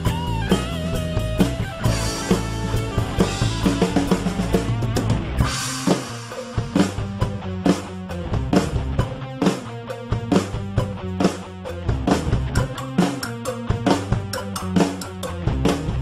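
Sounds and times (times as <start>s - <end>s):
bass guitar: 0.0s - 16.0s
drum kit rock groove: 0.0s - 16.0s
electric guitar: 0.0s - 16.0s.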